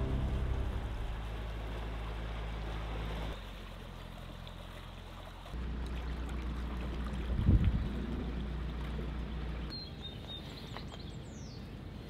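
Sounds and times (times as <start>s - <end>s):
boat engine humming: 0.0s - 9.7s
churning water: 0.0s - 11.0s.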